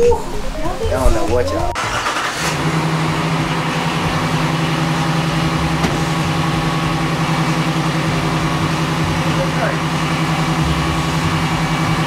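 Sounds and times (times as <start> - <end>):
pickup engine idling: 0.1 - 12.0.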